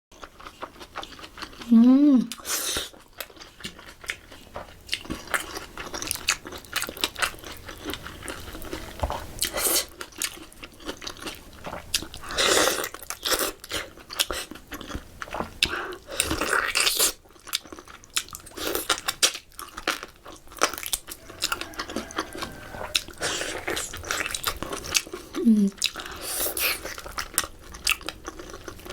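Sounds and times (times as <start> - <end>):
close chewing and crunching: 0.1 - 28.9.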